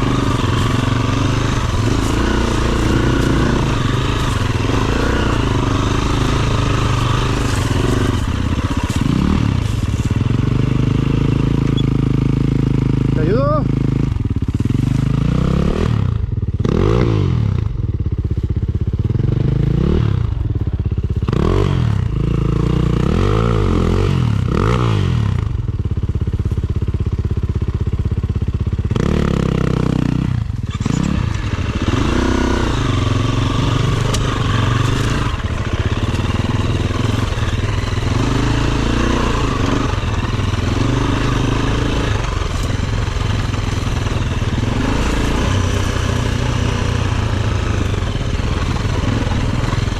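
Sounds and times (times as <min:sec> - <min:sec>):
dirt bike engine revving: 0:00.0 - 0:17.8, 0:19.0 - 0:25.7, 0:28.8 - 0:49.9.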